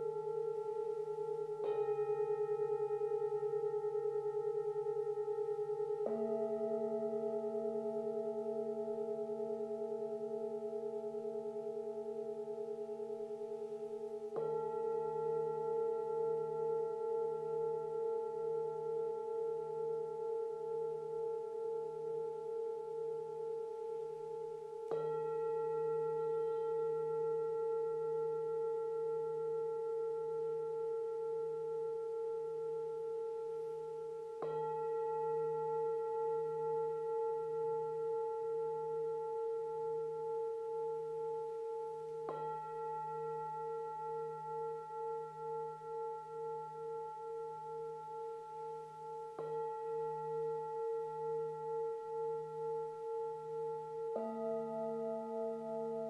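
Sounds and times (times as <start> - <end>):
singing bowl struck and ringing: 0.0 - 56.0.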